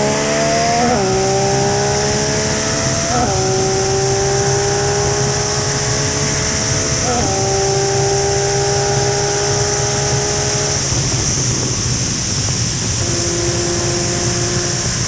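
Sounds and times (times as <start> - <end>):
motorcycle engine hum: 0.0 - 15.0
wind noise on microphone: 0.0 - 15.0.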